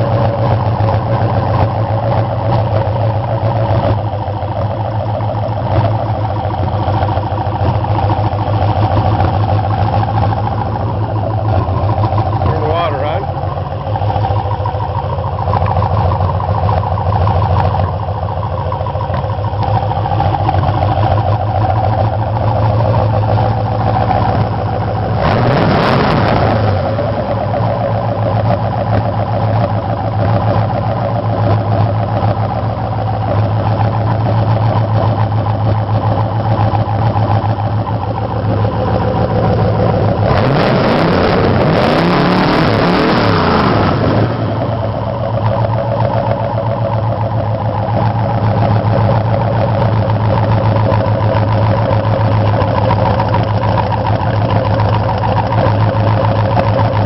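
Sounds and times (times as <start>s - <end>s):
boat engine revving: 0.0s - 57.0s.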